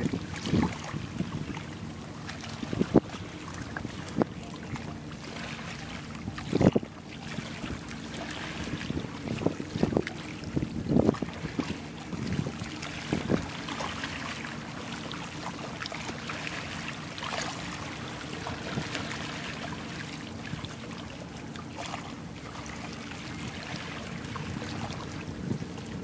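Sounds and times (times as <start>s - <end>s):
boat engine hum: 0.0s - 26.0s
water lapping against hulls: 0.0s - 26.0s.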